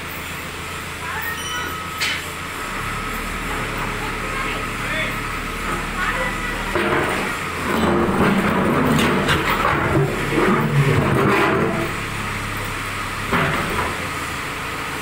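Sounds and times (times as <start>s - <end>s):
diesel engine revving: 2.2s - 15.0s.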